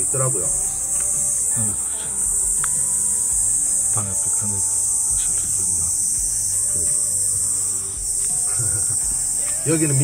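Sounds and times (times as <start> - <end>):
insects buzzing: 0.0 - 10.0
soft background music: 0.0 - 10.0.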